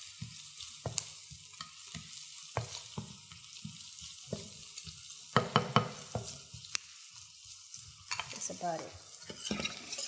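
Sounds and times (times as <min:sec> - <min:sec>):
onion sizzling in oil: 0:00.0 - 0:10.0
spatula scraping and tapping pan: 0:00.0 - 0:10.0.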